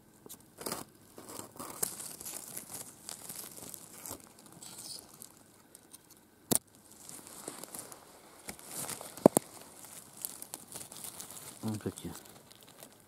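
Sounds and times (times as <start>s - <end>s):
leaves and needles rustling underfoot: 0.5s - 13.0s.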